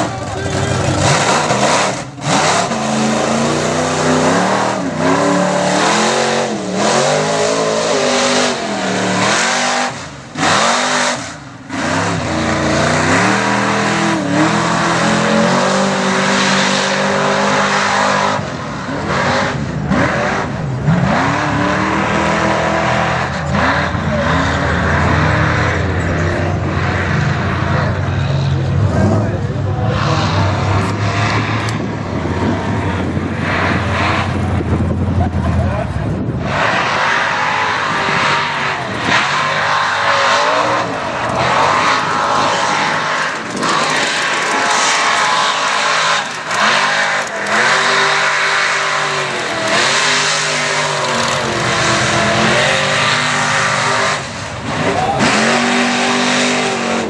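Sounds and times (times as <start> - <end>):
truck engine revving: 0.0 - 57.0.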